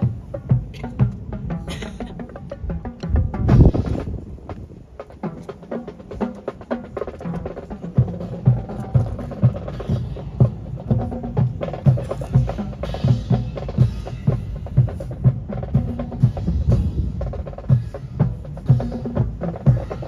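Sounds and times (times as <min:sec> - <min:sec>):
steady bass drum beat: 0:00.0 - 0:20.0.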